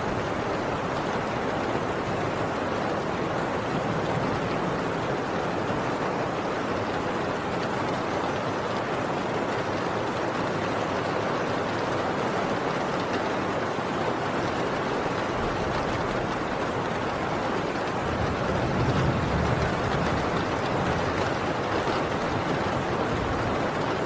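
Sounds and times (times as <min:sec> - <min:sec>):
heavy rain on a tin roof: 0:00.0 - 0:24.0.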